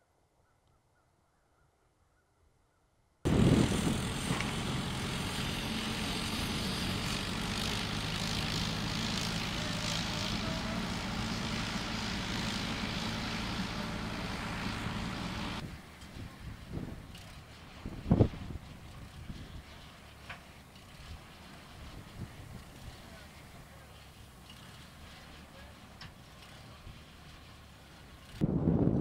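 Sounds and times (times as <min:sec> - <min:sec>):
loader engine running under load: 0:03.3 - 0:29.0.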